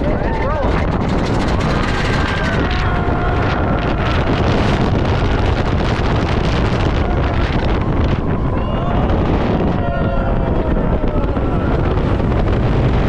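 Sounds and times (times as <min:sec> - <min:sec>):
roller coaster train rumble: 0:00.0 - 0:13.0
wind rushing over microphone: 0:00.0 - 0:13.0.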